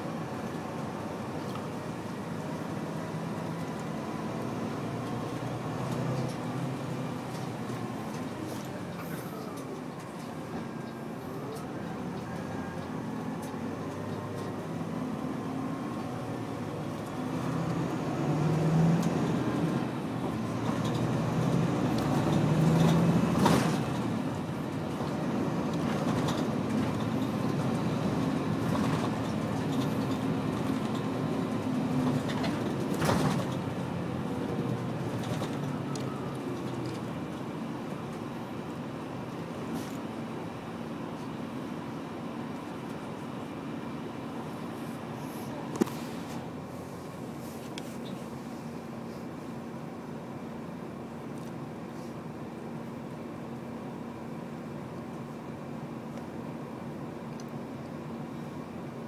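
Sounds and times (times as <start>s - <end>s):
coach engine and road noise: 0.0s - 59.0s.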